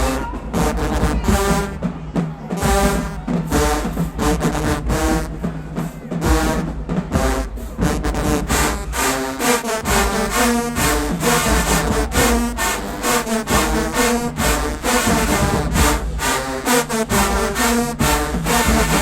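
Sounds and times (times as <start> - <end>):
bass drum and drumline beat: 0.0 - 19.0
brass chords: 0.0 - 19.0.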